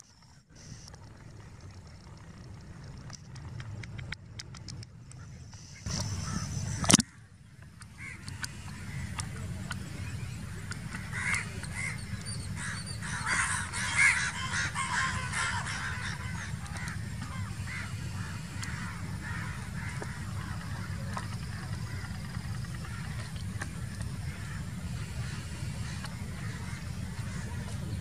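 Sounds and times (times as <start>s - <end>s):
jet engines rumbling: 0.6s - 28.0s
birds calling: 5.1s - 28.0s.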